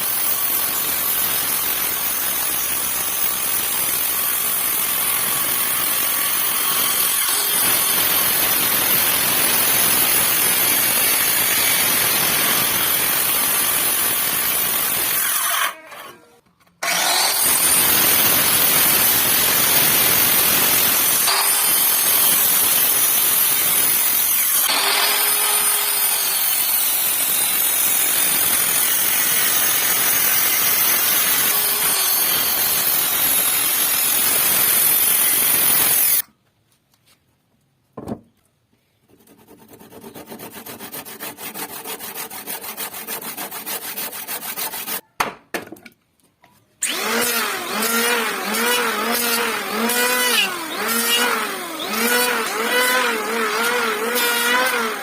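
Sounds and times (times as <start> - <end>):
power tool cutting wood: 0.0 - 36.2, 46.8 - 55.0.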